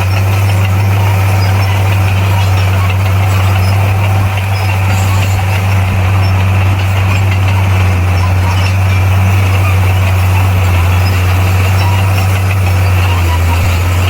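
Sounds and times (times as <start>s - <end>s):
heavy machine diesel engine droning: 0.0s - 14.0s.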